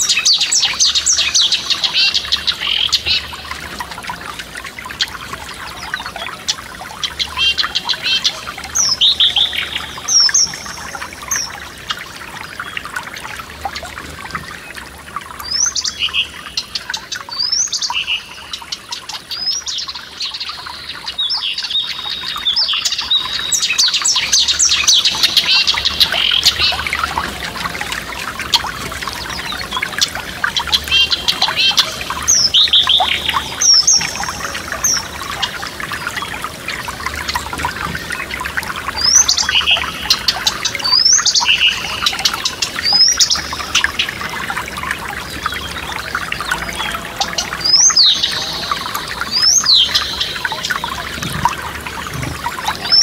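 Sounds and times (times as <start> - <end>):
songbirds chirping: 0.0 - 53.0
stream trickling over stones: 0.0 - 53.0.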